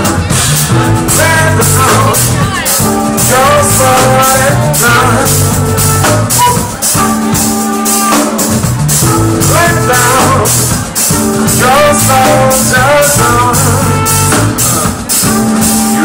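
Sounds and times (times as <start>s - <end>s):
person singing: 0.0s - 8.3s, 9.0s - 16.0s
bass guitar: 0.0s - 16.0s
drum kit: 0.0s - 16.0s
keyboards: 0.0s - 16.0s.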